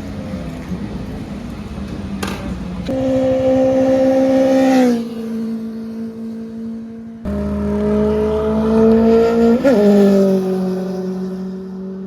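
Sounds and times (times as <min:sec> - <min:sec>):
motorcycle engine revving: 0:02.3 - 0:12.0.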